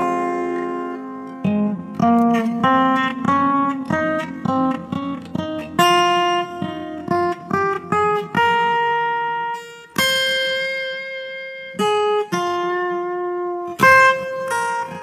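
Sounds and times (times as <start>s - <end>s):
acoustic guitar picking melody: 0.0s - 15.0s.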